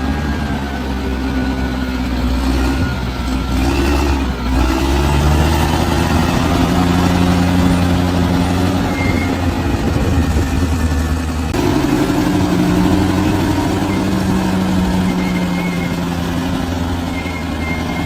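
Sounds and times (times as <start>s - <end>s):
bulldozer diesel engine under load: 0.0s - 18.0s.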